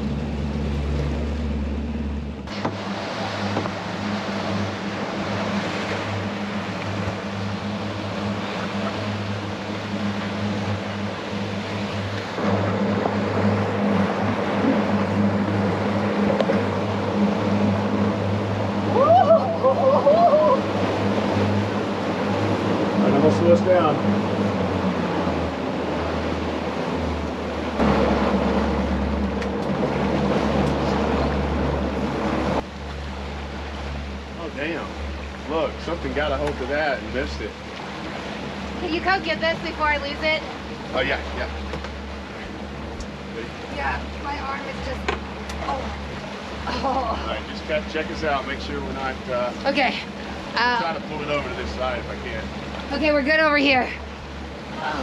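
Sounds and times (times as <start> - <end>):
outboard motors humming: 0.0 - 55.0
water rushing in wake: 0.0 - 55.0
wind: 0.0 - 55.0.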